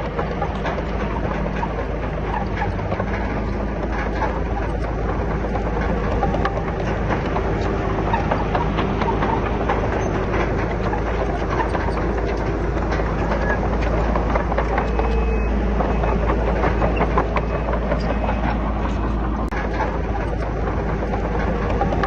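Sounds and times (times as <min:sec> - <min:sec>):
bulldozer diesel engine running: 0:00.0 - 0:22.0
clanks of steel tracks on rock: 0:00.0 - 0:22.0.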